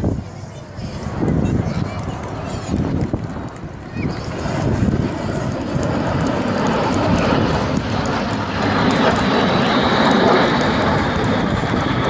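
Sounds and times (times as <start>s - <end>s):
jet engines roaring past: 0.0s - 12.0s.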